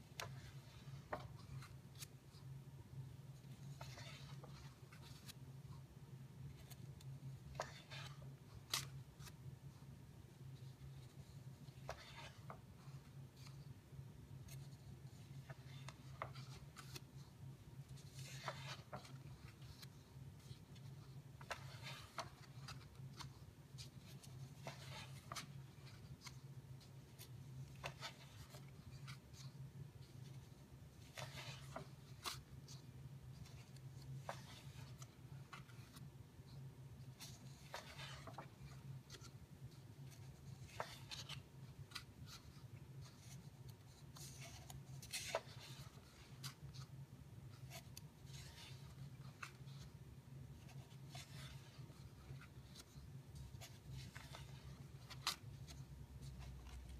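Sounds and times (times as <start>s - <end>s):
book pages turning: 0.0s - 2.5s, 3.3s - 56.9s.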